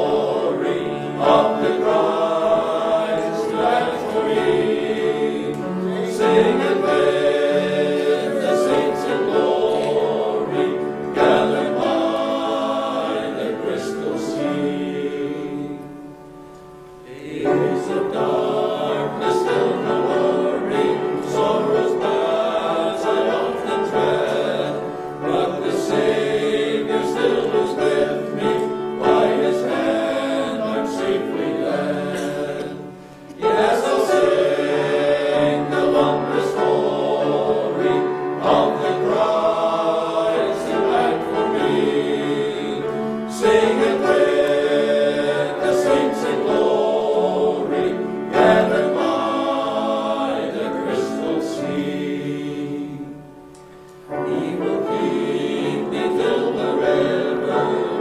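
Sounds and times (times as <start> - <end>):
men's chorus singing a hymn: 0.0 - 58.0.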